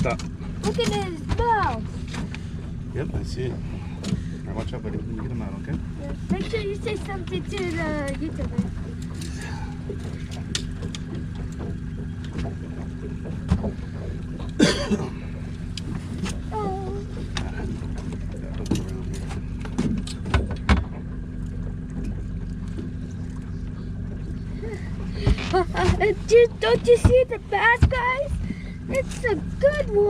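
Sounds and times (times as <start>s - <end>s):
boat motor humming: 0.0s - 30.0s
knocks and clatter on boat: 0.0s - 30.0s.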